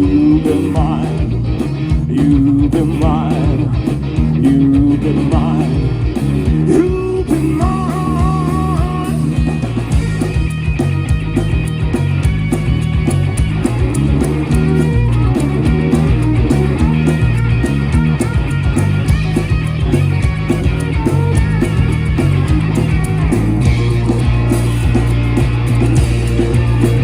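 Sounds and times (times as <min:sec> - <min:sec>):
blues rock band playing: 0:00.0 - 0:27.0
electric guitar: 0:00.0 - 0:27.0.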